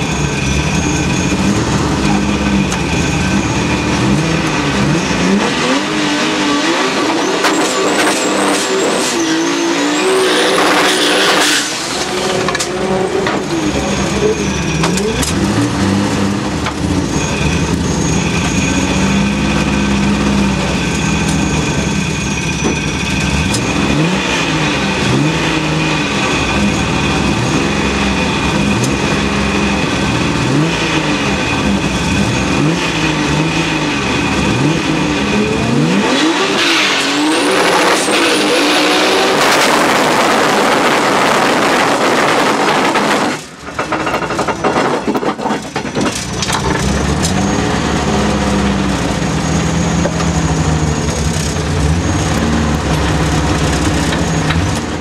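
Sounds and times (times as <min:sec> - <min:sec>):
car engine revving: 0:00.0 - 0:45.4, 0:46.1 - 0:55.0.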